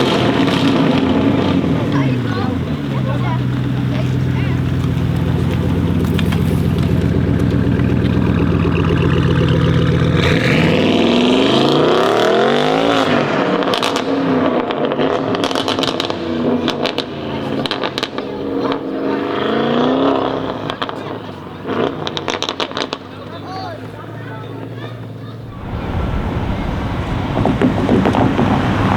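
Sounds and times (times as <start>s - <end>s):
exhaust crackles and pops: 0.0s - 11.8s, 13.1s - 28.9s
car engine accelerating: 0.0s - 28.9s.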